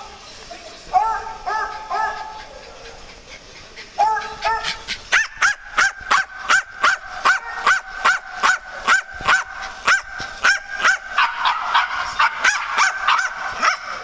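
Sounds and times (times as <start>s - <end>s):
small dog barking rapidly: 1.0s - 3.0s, 4.0s - 14.0s.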